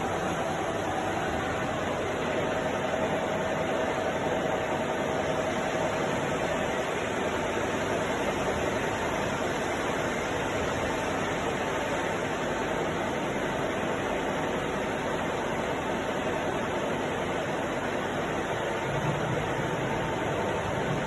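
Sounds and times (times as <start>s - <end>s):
milling machine running: 0.0s - 21.0s.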